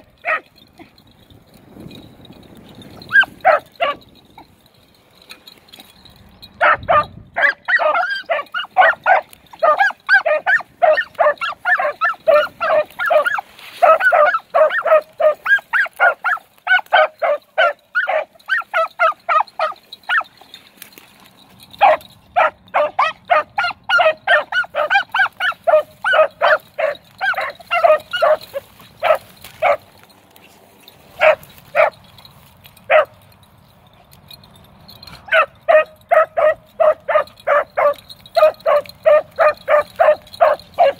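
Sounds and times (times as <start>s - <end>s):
hounds barking: 0.0s - 0.6s, 2.9s - 4.6s, 6.6s - 30.1s, 30.9s - 33.4s, 34.4s - 40.9s.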